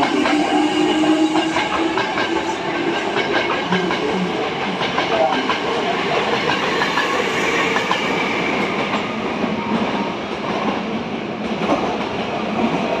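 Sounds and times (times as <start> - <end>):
rail clicks: 0.0 - 13.0
train wheels rumbling on rail: 0.0 - 13.0.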